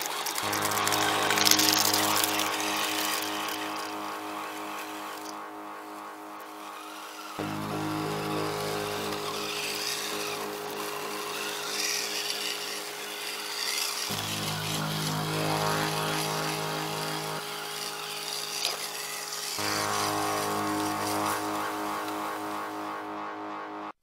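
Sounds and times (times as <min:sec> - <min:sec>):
electric motor and gears whining: 0:00.0 - 0:23.3
low drone: 0:00.0 - 0:24.0.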